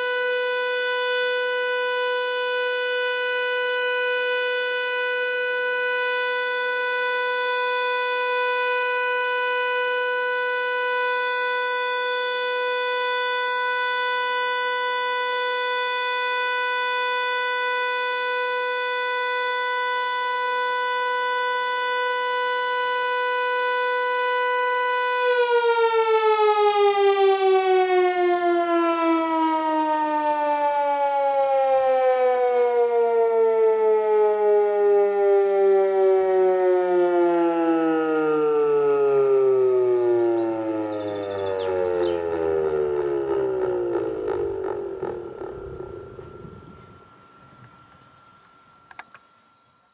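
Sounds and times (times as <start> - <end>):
siren winding down: 0.0 - 49.9.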